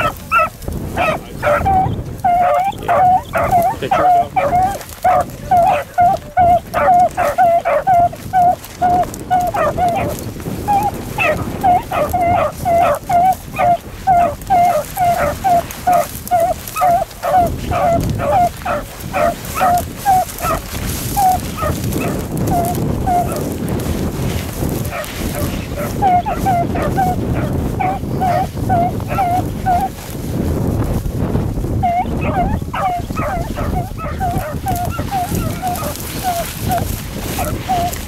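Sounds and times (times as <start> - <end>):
dogs baying: 0.0 - 30.1, 31.8 - 38.0.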